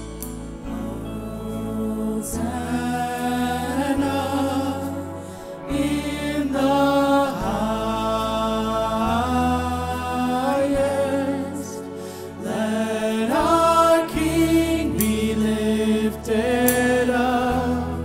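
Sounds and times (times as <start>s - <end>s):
bass notes: 0.0s - 18.0s
sustained chords: 0.0s - 18.0s.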